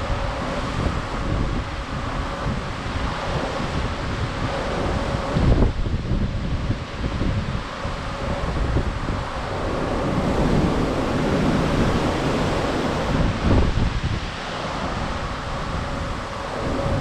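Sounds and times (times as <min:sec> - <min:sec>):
sea swells rushing against ship: 0:00.0 - 0:17.0
wind buffeting microphone: 0:00.0 - 0:17.0.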